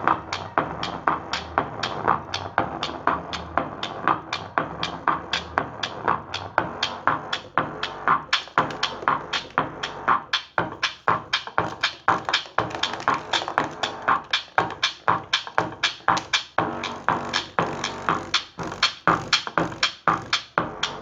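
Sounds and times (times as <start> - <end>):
electronic dance music: 0.0 - 21.0.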